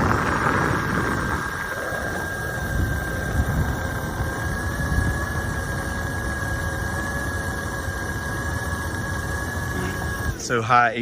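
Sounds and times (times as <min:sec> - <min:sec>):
constant high whine: 0:00.0 - 0:11.0
dryer exhaust air rushing: 0:00.0 - 0:11.0.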